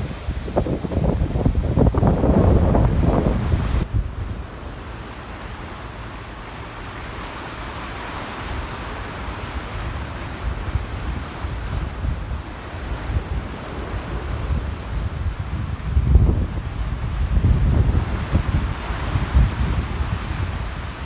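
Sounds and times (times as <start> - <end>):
surf hissing: 0.0 - 21.0
wind buffeting microphone: 0.0 - 21.0.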